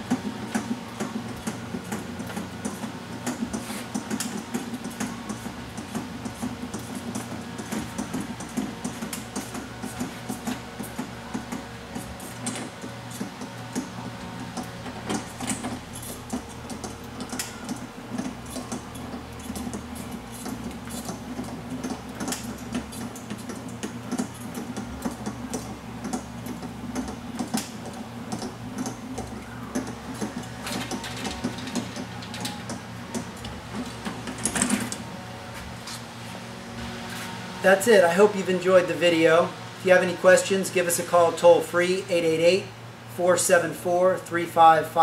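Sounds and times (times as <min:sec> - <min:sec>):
rolling shutter clicking and rattling: 0:00.0 - 0:40.4.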